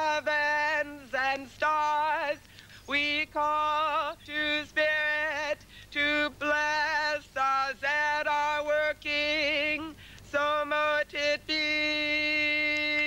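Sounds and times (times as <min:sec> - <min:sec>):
woman singing a slow chant: 0:00.0 - 0:13.0.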